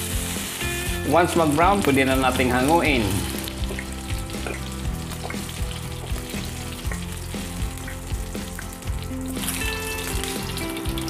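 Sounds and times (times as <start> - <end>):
ribs sizzling in hot oil: 0.0 - 11.0.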